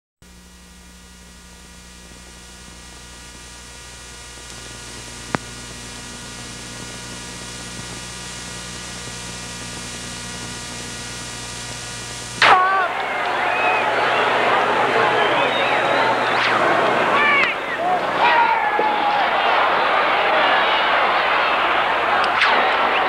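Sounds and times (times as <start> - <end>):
electrical mains hum: 0.2 - 23.0
steady hiss: 1.2 - 23.0.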